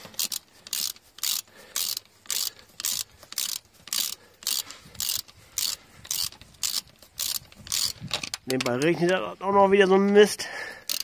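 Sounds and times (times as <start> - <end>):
ratchet wrench clicking: 0.0 - 8.9.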